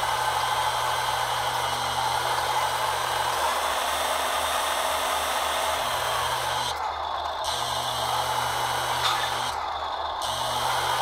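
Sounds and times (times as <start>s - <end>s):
hydraulic pump whirring: 0.0s - 11.0s.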